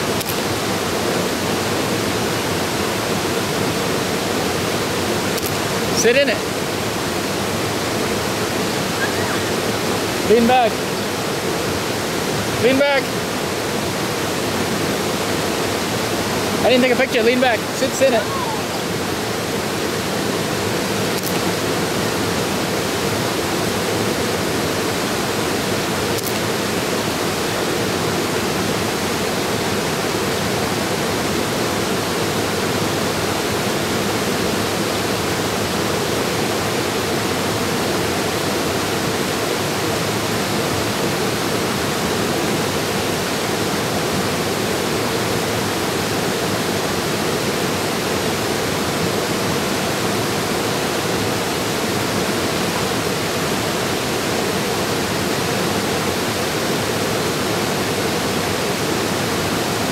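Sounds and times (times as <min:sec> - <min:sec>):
water rushing over ledges: 0:00.0 - 0:59.9.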